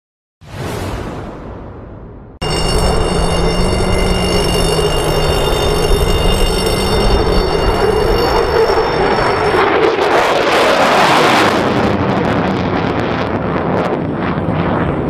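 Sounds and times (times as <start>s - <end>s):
fighter jet roaring: 2.4s - 15.0s.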